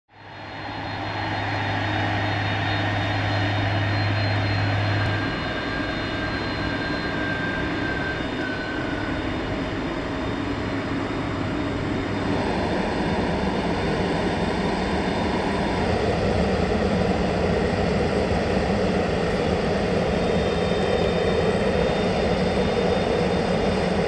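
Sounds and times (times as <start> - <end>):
jet engine roar: 0.1 - 24.0
low hum: 0.1 - 24.0.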